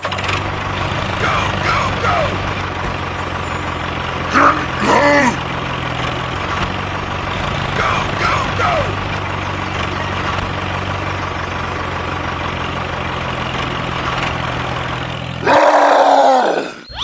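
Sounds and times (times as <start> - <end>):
tractor engine idling: 0.0 - 16.2.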